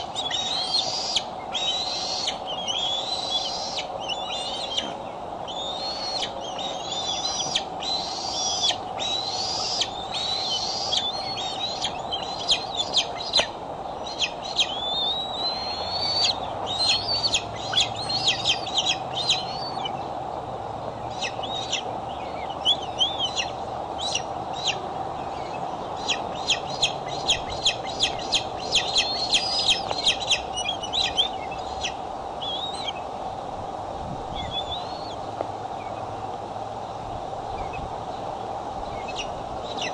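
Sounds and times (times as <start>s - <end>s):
eagles whistling and chirping: 0.0s - 20.0s, 21.1s - 24.8s, 25.4s - 33.0s, 34.4s - 35.2s
steady background hum: 0.0s - 39.9s.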